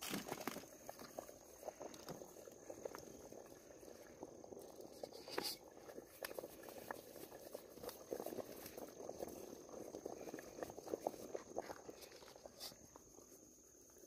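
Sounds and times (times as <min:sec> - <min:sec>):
wood fire pops and crackles: 0:00.0 - 0:13.0.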